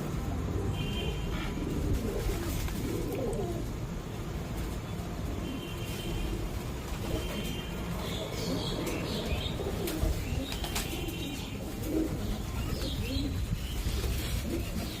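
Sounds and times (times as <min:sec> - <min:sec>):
pigeons cooing: 0:00.6 - 0:04.2, 0:05.5 - 0:15.0.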